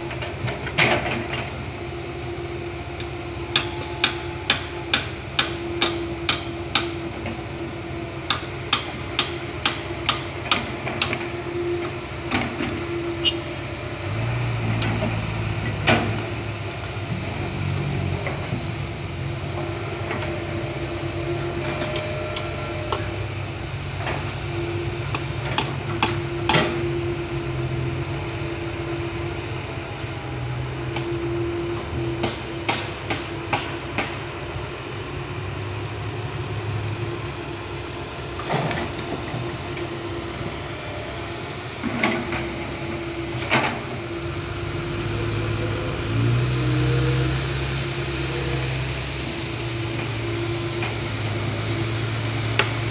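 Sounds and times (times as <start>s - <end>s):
excavator diesel engine: 0.0s - 52.9s
hydraulic whine: 0.0s - 52.9s.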